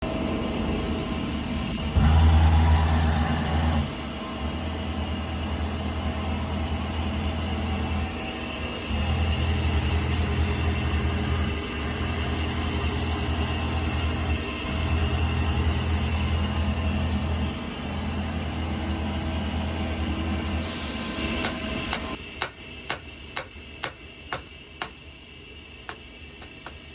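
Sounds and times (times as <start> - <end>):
lathe axis droning: 0.3 - 26.9.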